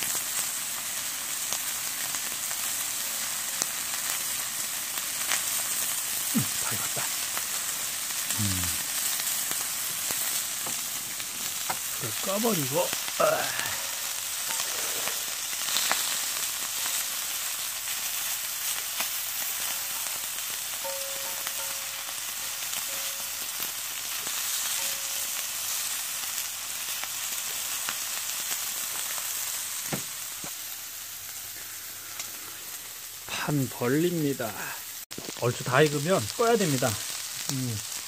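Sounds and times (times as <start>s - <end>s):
meat sizzling on a griddle: 0.0s - 38.0s.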